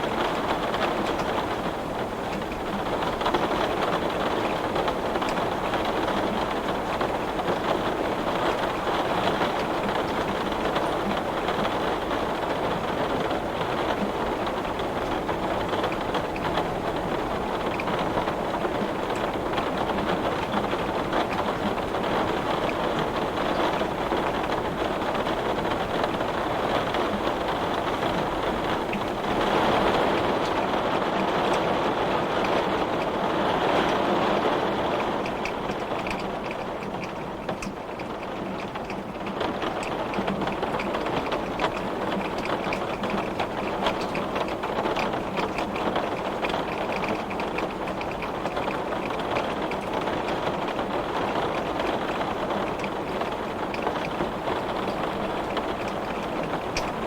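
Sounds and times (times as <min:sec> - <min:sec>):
heavy rain on glass: 0:00.0 - 0:57.0.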